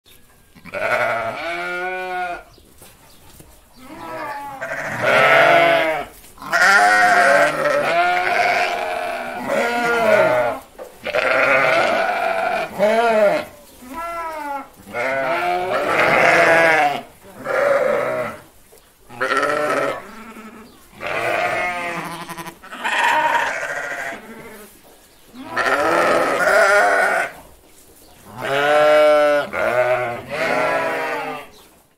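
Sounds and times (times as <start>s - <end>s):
sheep bleating: 0.6s - 2.5s, 3.8s - 18.4s, 19.1s - 24.7s, 25.4s - 27.4s, 28.3s - 31.6s.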